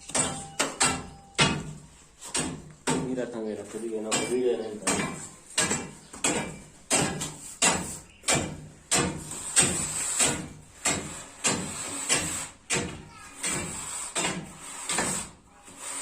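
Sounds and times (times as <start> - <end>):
hand tool chipping flooring: 0.0 - 16.0.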